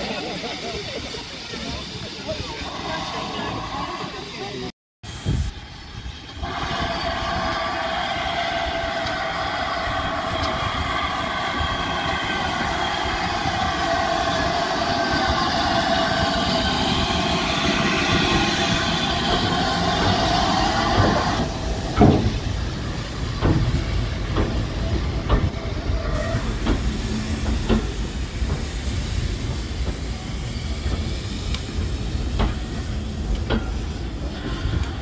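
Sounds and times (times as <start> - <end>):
steam bursts: 0.0 - 35.0
steam locomotive running: 0.0 - 35.0.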